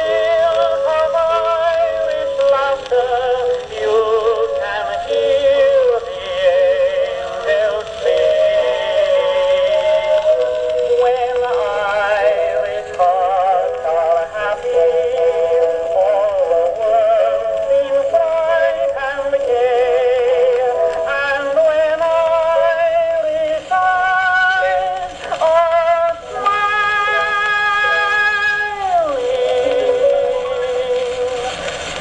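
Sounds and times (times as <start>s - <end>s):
old phonograph record of singing: 0.0s - 32.0s.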